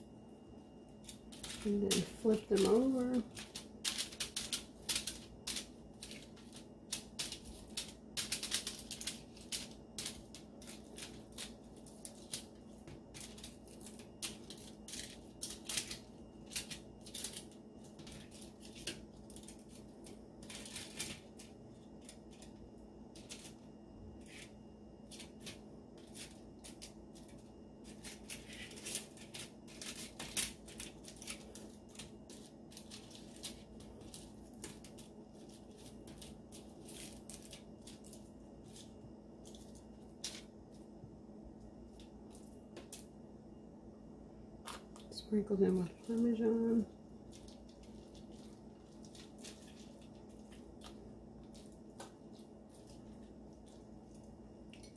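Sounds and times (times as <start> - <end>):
faint steady hum: 0.0 - 54.9
crackers clicking on foil: 0.9 - 40.8, 44.6 - 54.9.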